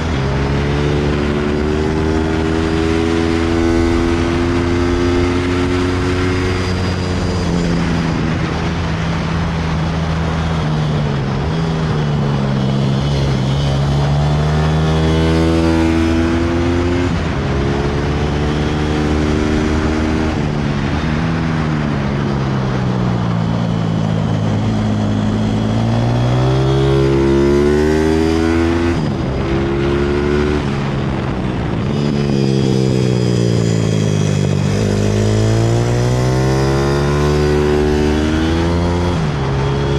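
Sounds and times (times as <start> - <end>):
pit bike engine accelerating: 0.0 - 39.9.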